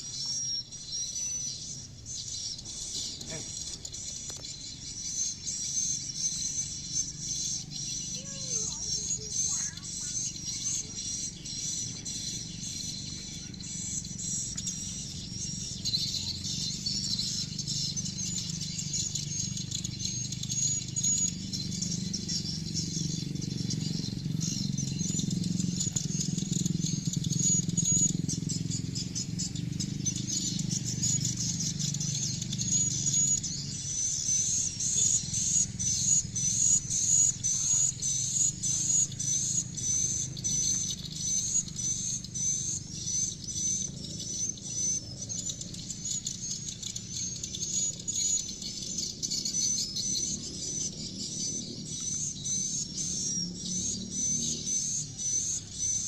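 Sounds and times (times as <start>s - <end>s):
swiftlets chirping: 0.0s - 53.2s.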